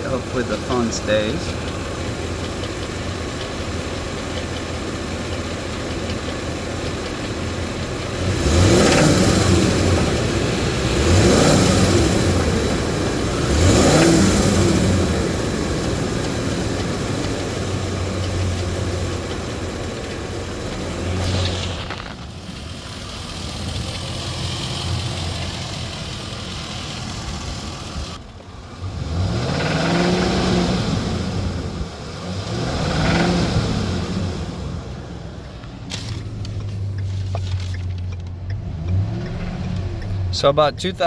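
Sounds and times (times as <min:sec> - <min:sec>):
van engine idling and revving: 0:00.0 - 0:41.0.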